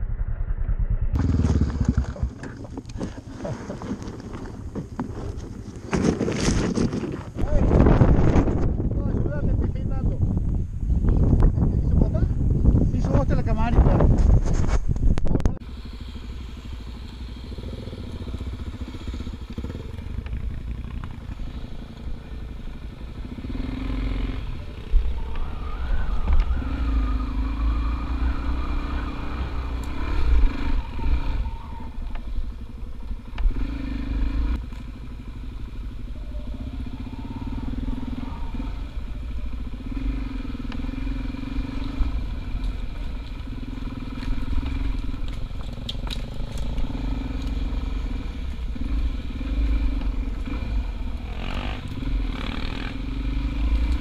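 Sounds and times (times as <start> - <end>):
motor vehicle engine rumble: 0.0 - 54.0.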